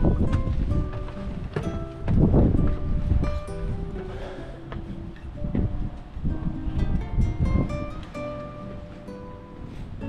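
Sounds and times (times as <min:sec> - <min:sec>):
plucked guitar melody: 0:00.0 - 0:10.0.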